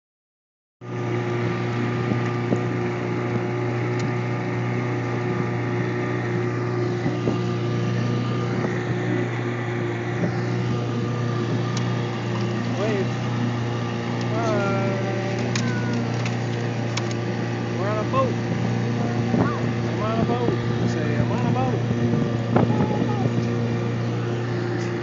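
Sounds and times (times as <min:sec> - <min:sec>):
outboard motor running: 0:00.8 - 0:25.0.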